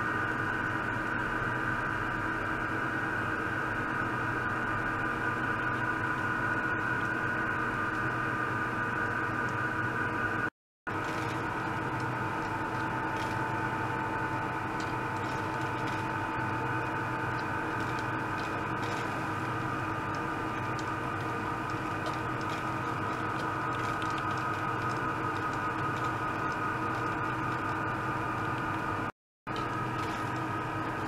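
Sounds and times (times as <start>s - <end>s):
liquid pump whining: 0.0s - 31.0s.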